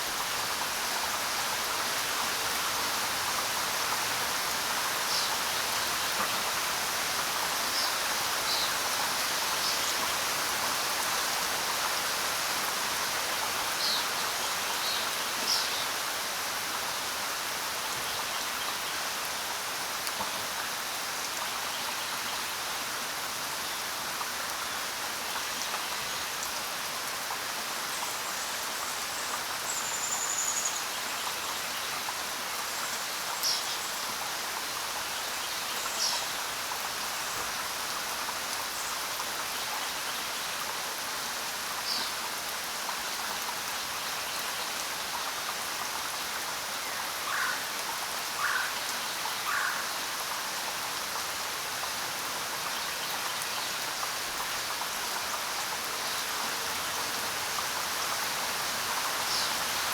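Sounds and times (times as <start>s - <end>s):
rain pattering on ground: 0.0s - 59.9s.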